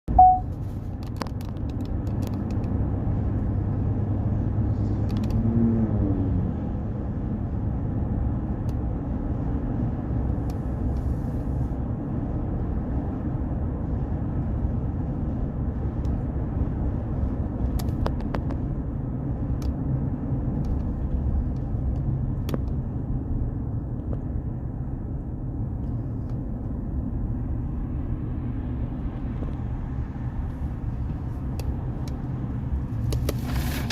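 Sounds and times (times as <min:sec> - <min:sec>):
rumble of vehicles driving: 0:00.0 - 0:33.9.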